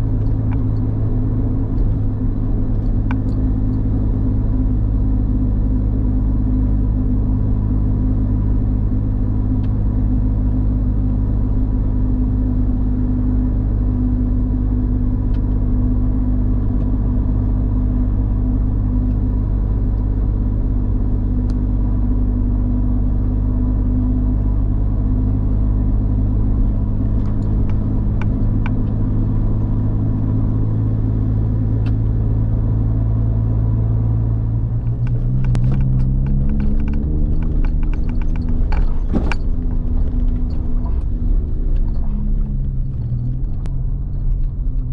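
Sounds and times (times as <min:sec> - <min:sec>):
car engine humming: 0:00.0 - 0:44.9.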